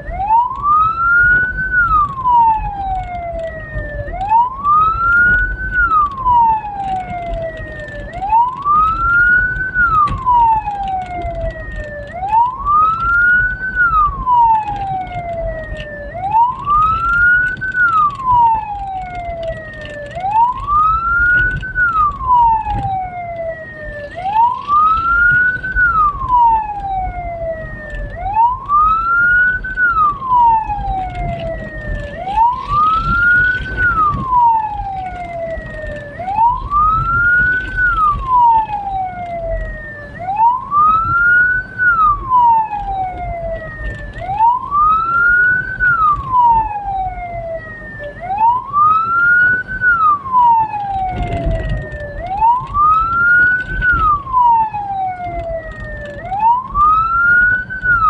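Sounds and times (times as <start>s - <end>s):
road and engine rumble: 0.0s - 58.0s
siren wailing: 0.0s - 58.0s.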